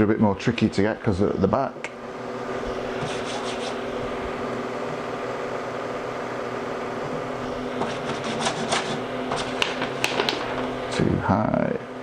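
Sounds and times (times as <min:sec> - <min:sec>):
three-d printer humming: 0:00.0 - 0:12.0.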